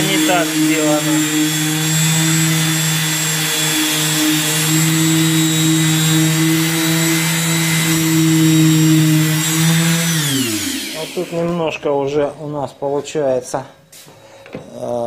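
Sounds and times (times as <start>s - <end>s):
orbital sander humming: 0.0s - 12.1s.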